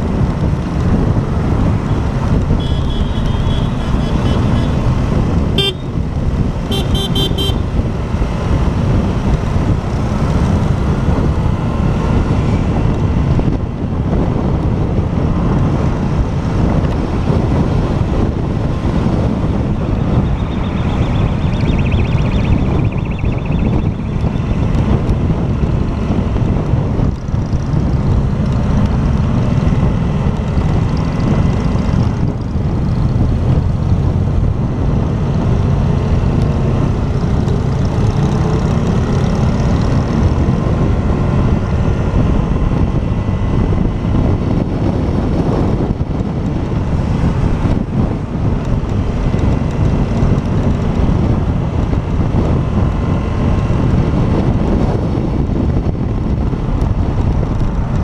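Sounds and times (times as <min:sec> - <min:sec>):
motorcycle engine rumbling: 0:00.0 - 0:58.0
wind noise on microphone: 0:00.0 - 0:58.0.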